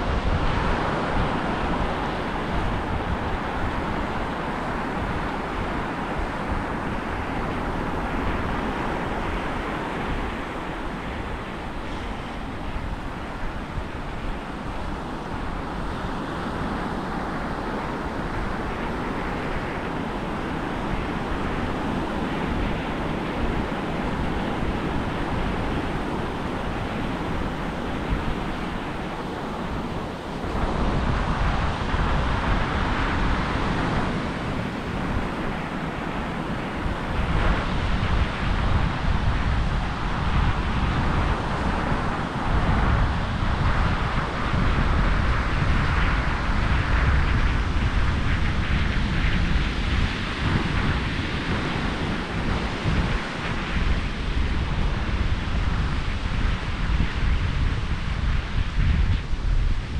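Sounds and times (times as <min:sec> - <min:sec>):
surf washing on sandy beach: 0:00.0 - 0:59.9
wind buffeting microphone: 0:00.0 - 0:59.9.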